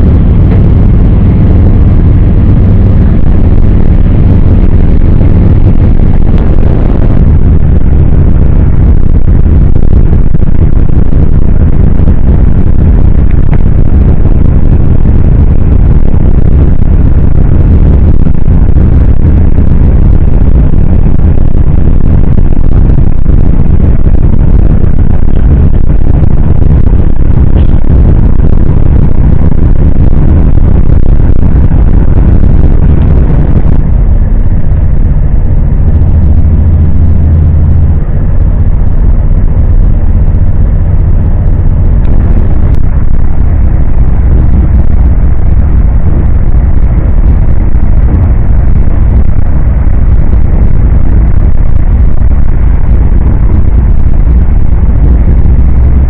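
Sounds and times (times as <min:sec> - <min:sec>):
train rumbling on rails: 0:00.0 - 0:47.4.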